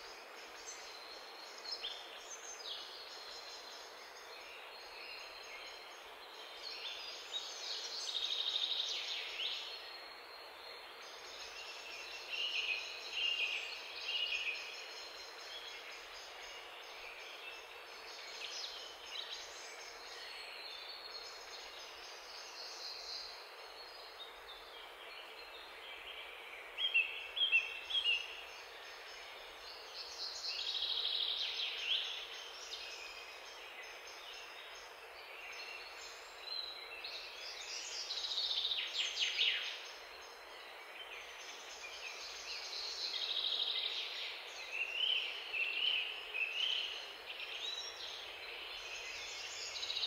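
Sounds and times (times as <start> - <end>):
songbirds chirping and trilling: 0.0 - 50.0.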